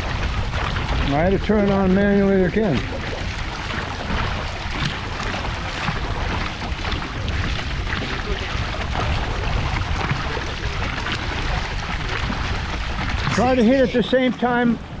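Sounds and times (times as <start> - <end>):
paddles pulling through water: 0.0 - 15.0
wind on microphone: 0.0 - 15.0.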